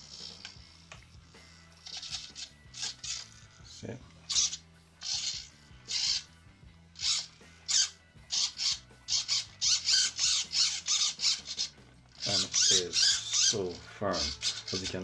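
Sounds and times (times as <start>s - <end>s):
steering servo whirring: 0.0s - 6.3s, 6.9s - 15.0s.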